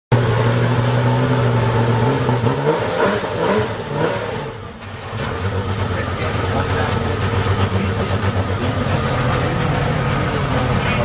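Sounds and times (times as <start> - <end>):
race car engine revving: 0.1 - 11.0.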